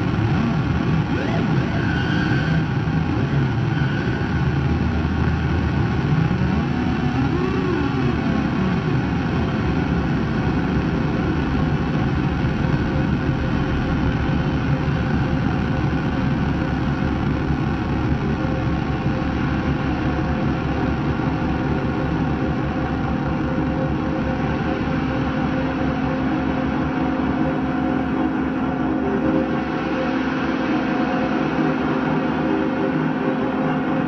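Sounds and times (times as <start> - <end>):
distorted noise drone: 0.0 - 34.0.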